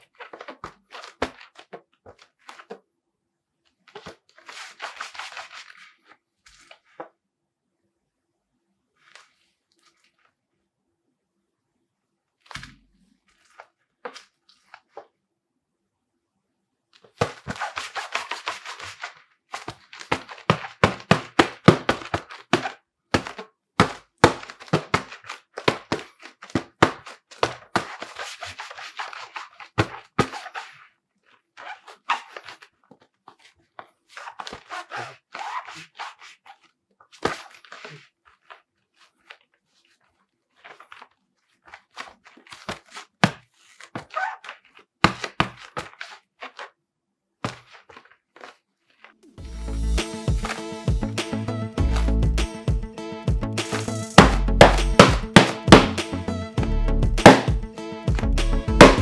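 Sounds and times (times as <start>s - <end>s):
gloves rubbing and rustling: 0.0s - 7.3s, 8.8s - 10.6s, 12.3s - 15.3s, 16.9s - 51.2s, 53.6s - 56.1s, 57.2s - 59.0s.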